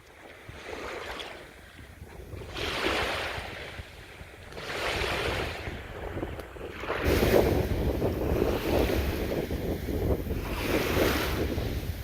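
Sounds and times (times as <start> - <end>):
small waves washing onto beach: 0.0 - 12.0
low wind rumble: 1.5 - 12.0.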